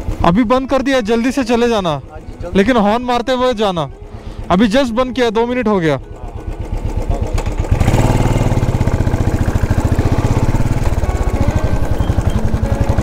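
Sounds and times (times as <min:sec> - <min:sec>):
motorcycle engine revving: 0:00.0 - 0:03.8, 0:05.4 - 0:13.0.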